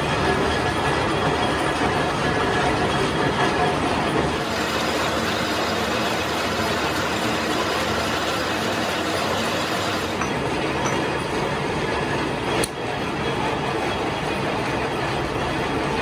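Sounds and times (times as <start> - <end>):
machines running mechanical din: 0.0 - 16.0.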